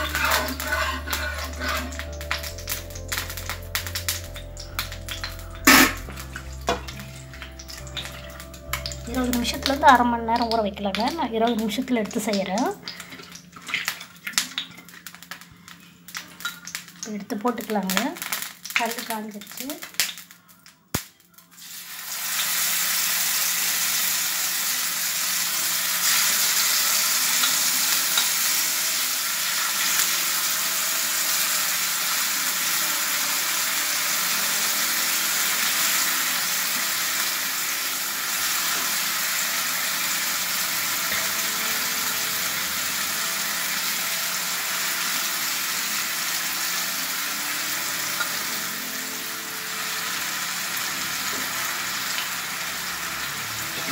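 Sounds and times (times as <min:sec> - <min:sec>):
fish sizzling in hot oil: 0:00.0 - 0:53.9.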